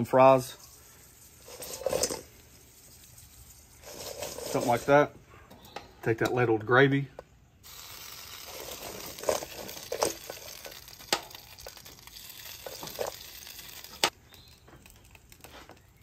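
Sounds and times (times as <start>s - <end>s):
steady hiss: 0.0s - 5.2s, 7.6s - 16.0s.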